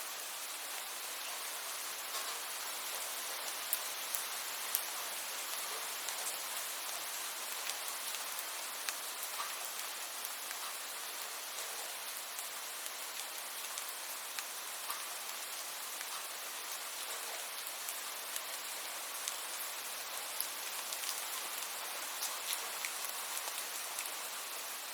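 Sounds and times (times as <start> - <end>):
steady rainfall hiss: 0.0 - 24.9
raindrops ticking on a surface: 1.3 - 24.9.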